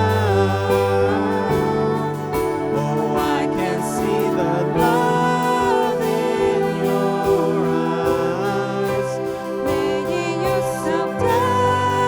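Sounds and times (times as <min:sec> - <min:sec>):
church worship music chords: 0:00.0 - 0:12.0.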